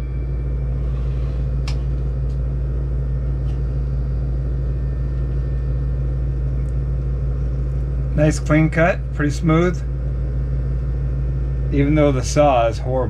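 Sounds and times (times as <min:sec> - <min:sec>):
loud low hum: 0:00.0 - 0:13.0.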